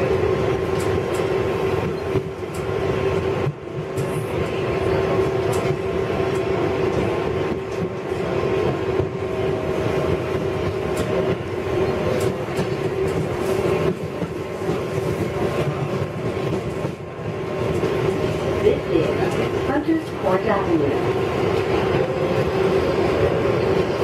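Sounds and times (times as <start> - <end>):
rumble of train wheels on rail: 0.0 - 24.0
train whine: 0.0 - 24.0.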